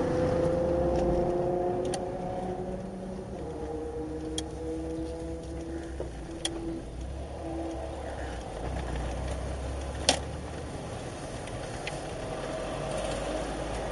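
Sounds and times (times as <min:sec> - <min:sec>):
car engine accelerating: 0:00.0 - 0:13.9
road noise: 0:00.0 - 0:13.9.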